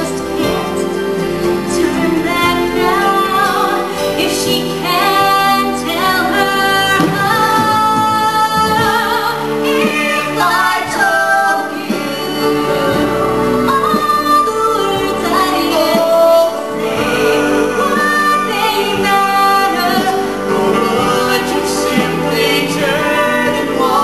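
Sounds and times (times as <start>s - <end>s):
instrumental accompaniment: 0.0s - 24.0s
woman singing: 0.0s - 24.0s.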